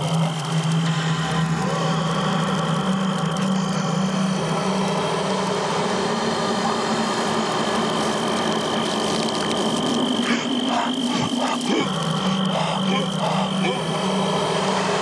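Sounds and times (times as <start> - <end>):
steady droning hum: 0.0 - 15.0.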